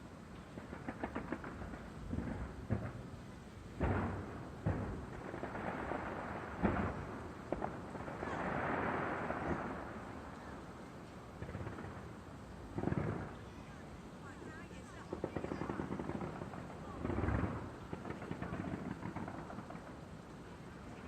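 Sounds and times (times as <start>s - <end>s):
fireworks booms and pops: 0.0s - 13.8s, 14.5s - 20.2s
fireworks crackle: 0.0s - 21.0s.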